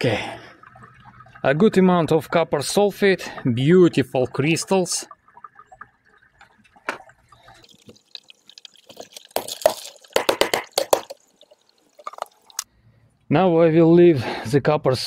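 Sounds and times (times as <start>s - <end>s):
liquid splashing and clattering: 0.2s - 12.7s
faint drips and taps: 0.4s - 12.7s.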